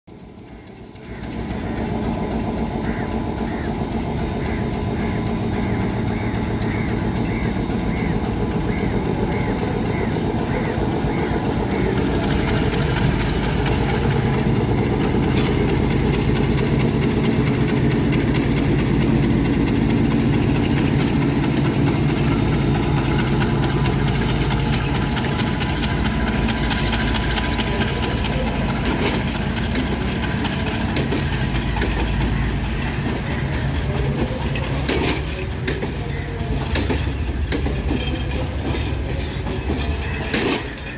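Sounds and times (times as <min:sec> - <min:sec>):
diesel locomotive engine running: 0:00.1 - 0:40.9.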